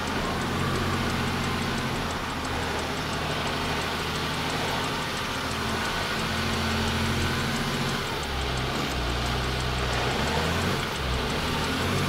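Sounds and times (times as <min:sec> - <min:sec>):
faint fast ticking: 0:00.0 - 0:12.0
truck diesel engine running: 0:00.0 - 0:12.0.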